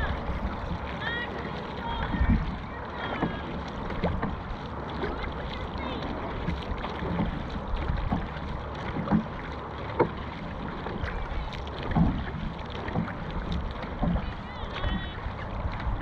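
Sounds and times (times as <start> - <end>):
paddles splashing in water: 0.0 - 16.0
wind rumbling on microphone: 0.0 - 16.0.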